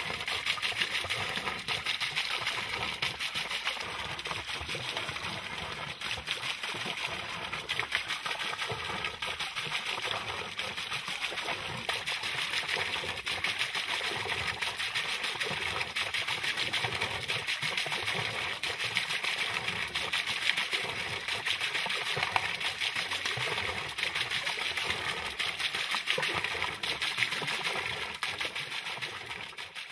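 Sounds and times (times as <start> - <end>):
water pouring and splashing: 0.0 - 29.9.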